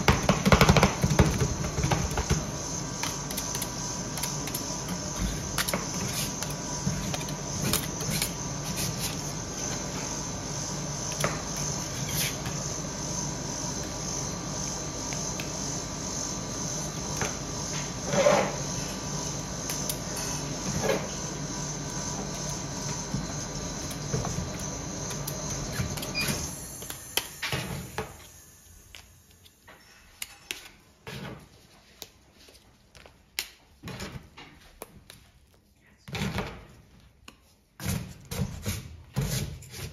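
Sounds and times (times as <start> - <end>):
hum with high whine: 0.0 - 33.1.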